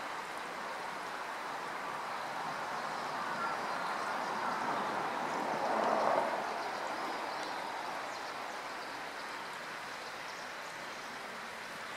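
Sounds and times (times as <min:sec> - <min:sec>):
rushing outdoor background noise: 0:00.0 - 0:11.9.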